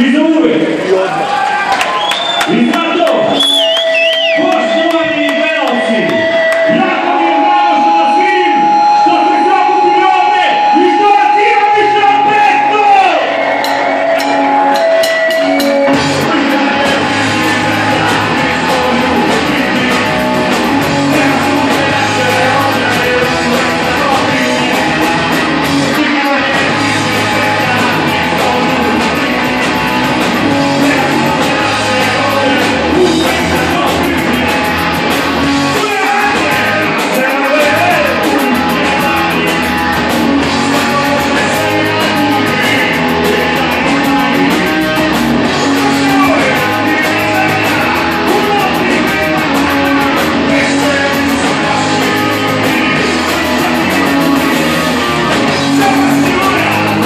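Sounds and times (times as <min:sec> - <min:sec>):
bass guitar: 0:00.0 - 0:57.0
electric guitars: 0:00.0 - 0:57.0
drum kit with rapid cymbals: 0:01.9 - 0:57.0.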